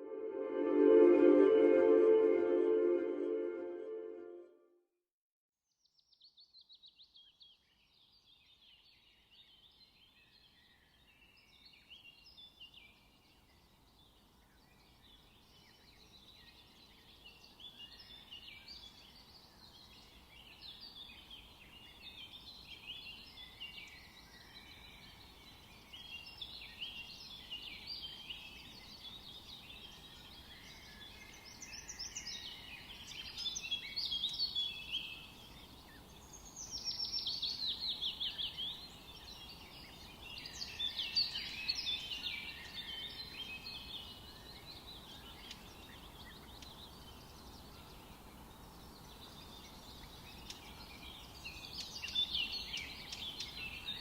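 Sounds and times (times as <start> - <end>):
faint background hiss: 0.0 - 4.6, 7.4 - 54.0
chorus of songbirds: 6.0 - 54.0.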